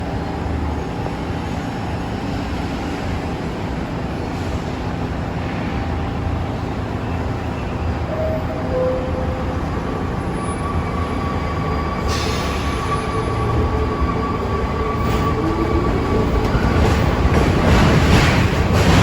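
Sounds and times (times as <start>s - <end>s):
subway train rumble and hiss: 0.0s - 19.0s.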